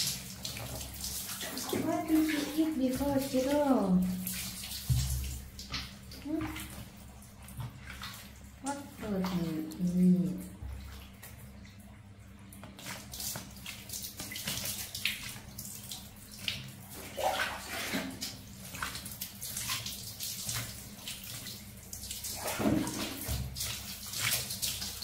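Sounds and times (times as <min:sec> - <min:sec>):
bath water splashing and trickling: 0:00.0 - 0:25.0.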